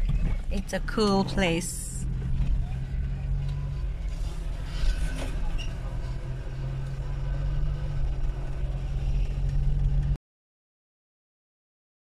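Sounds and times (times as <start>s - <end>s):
car engine and road rumble: 0.0s - 10.2s.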